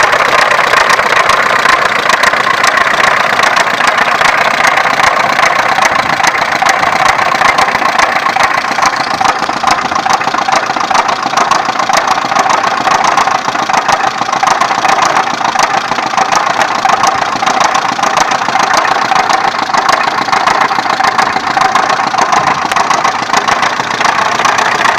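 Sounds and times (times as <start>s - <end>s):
car engine idling: 0.0s - 24.9s
rapid engine knock: 0.0s - 24.9s.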